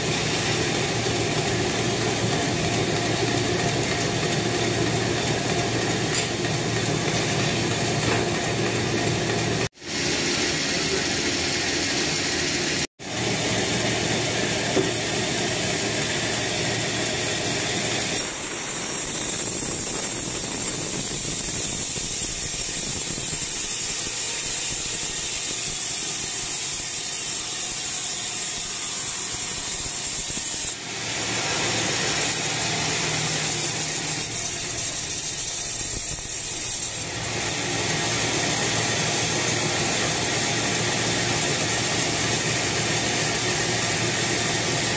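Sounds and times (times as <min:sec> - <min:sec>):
band saw cutting log: 0:00.0 - 0:44.9.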